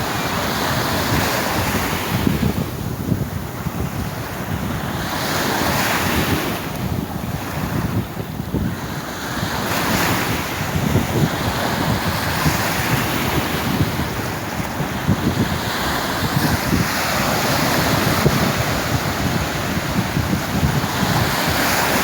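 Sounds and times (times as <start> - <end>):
sea waves washing ashore: 0.0 - 22.0
wind rumbling on microphone: 0.0 - 22.0.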